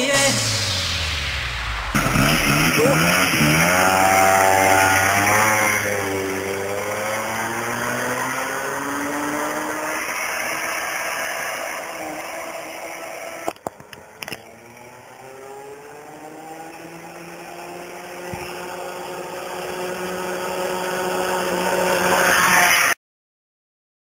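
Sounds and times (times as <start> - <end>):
scooter engine accelerating: 2.0 - 23.0.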